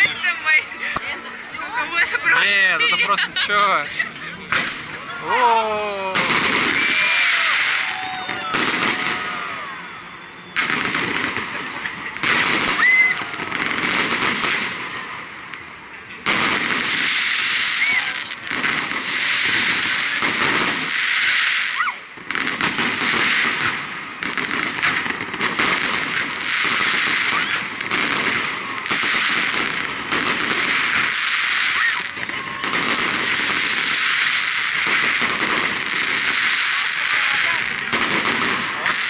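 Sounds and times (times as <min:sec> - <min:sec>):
fireworks crackling: 0:00.0 - 0:39.0
rising firework whistles: 0:04.6 - 0:14.8, 0:16.6 - 0:39.0.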